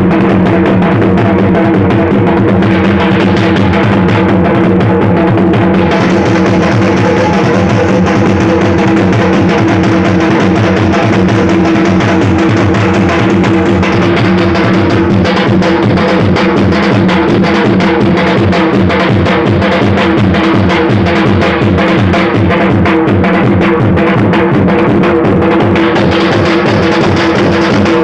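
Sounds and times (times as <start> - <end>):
drums beating fast rhythm: 0.0 - 28.0.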